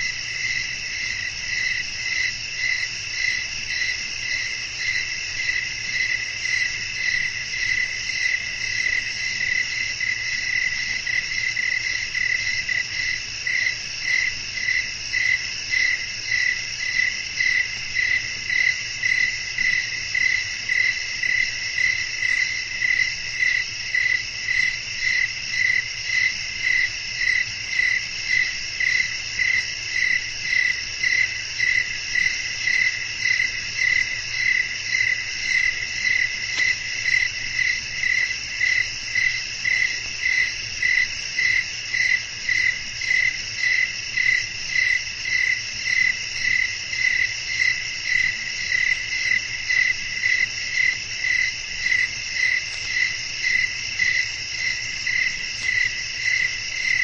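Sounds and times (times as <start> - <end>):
continuous insect trill: 0.0 - 57.0
cricket chirping rhythmically: 0.0 - 57.0.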